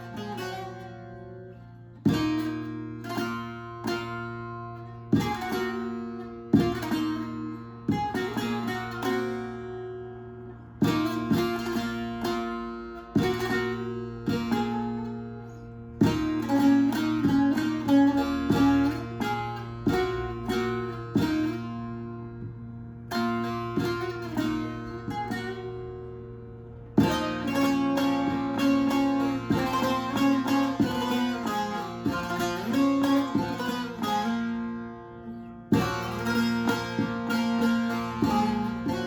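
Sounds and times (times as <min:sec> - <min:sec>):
plucked lute solo: 0:00.0 - 0:39.0.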